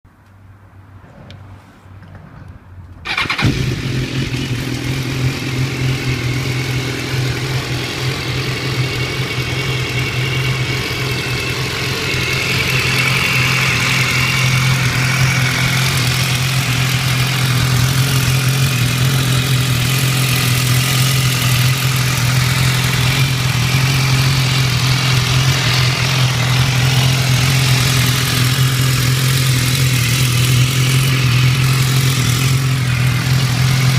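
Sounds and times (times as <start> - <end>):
engine ticking: 3.0 - 33.9
motorcycle engine idling: 3.0 - 33.9.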